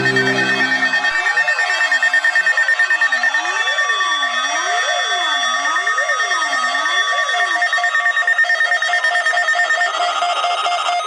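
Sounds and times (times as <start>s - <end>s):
rapid pulsing beep: 0.0s - 11.0s
steady high alarm tones: 0.0s - 11.0s
whooping alarm tone: 0.0s - 11.0s.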